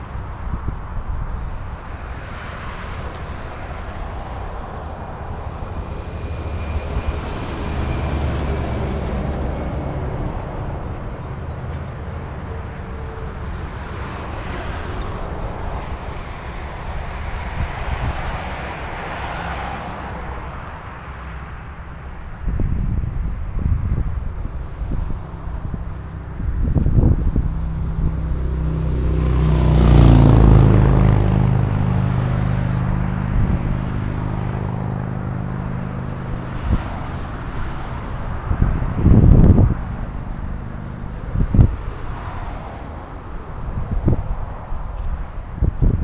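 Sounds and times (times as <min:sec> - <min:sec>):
motorway traffic rushing: 0:00.0 - 0:46.0.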